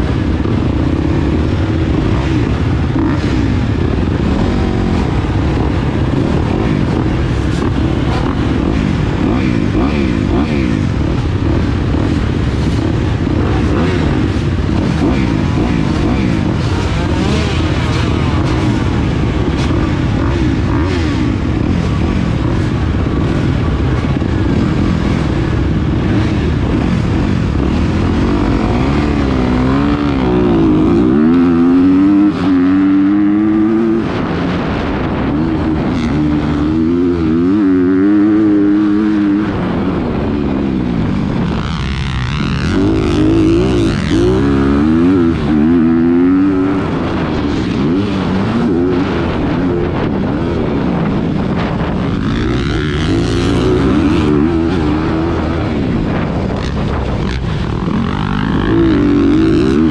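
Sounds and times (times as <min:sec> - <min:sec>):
dirt bike accelerating through gears: 0:00.0 - 0:59.9
dirt bike engines: 0:00.0 - 0:59.9.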